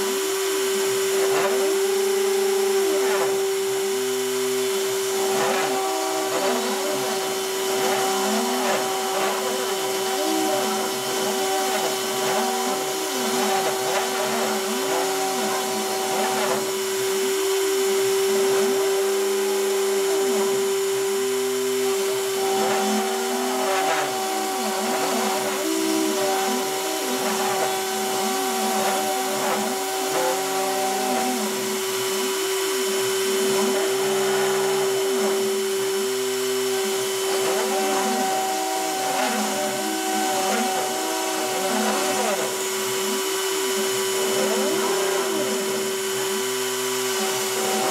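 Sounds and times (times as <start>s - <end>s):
rotary tool humming: 0.0s - 47.9s.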